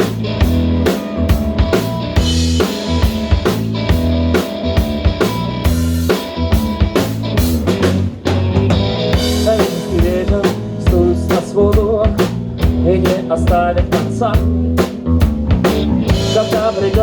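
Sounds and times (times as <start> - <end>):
bass line: 0.0 - 17.0
drum kit beat: 0.0 - 17.0
rock band instrumental: 0.0 - 17.0.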